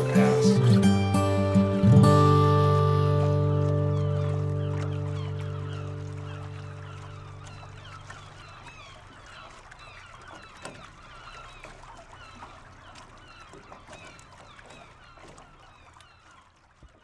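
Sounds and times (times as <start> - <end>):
birds calling: 0.0 - 16.8.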